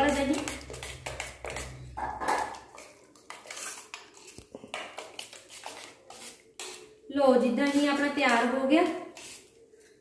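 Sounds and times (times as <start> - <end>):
hands mixing in steel bowl: 0.0 - 10.0.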